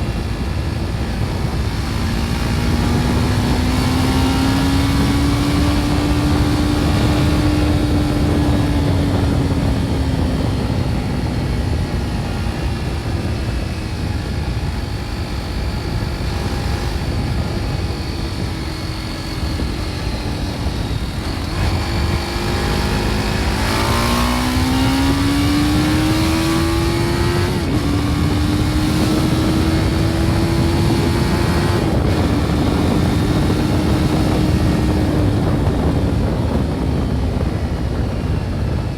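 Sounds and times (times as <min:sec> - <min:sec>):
motorcycle engine at road speed: 0:00.0 - 0:38.9
wind noise: 0:00.0 - 0:38.9.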